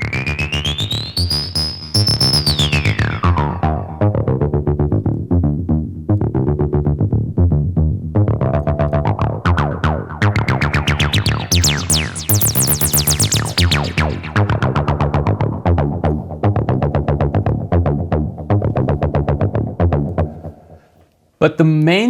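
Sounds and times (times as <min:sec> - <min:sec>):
distorted acid synth bassline: 0:00.0 - 0:20.6.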